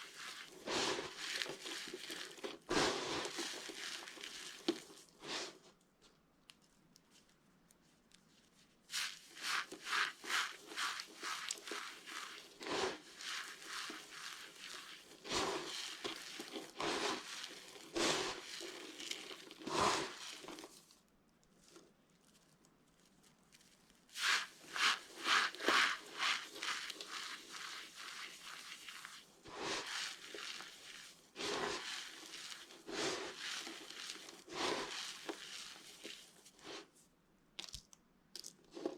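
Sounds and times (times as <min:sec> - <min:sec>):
dry soap crackling and crunching: 0:00.0 - 0:38.9.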